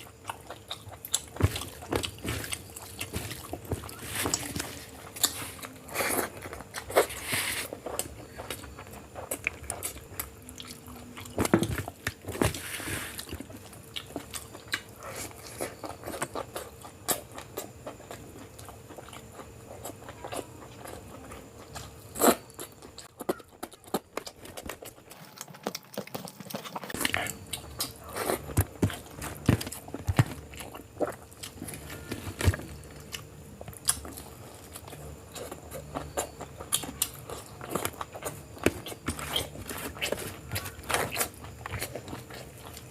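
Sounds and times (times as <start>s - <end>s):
person chewing: 0.0s - 42.9s.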